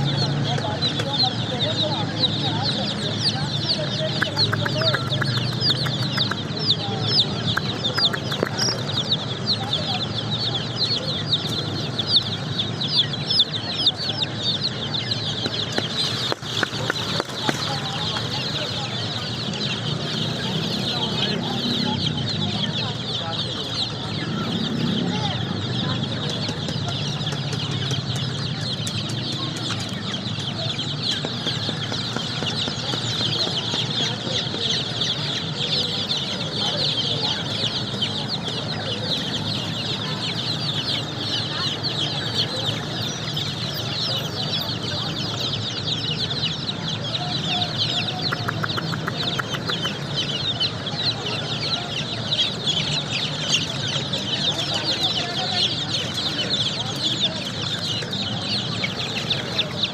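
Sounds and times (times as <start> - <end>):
baby chicks peeping: 0.0 - 59.9.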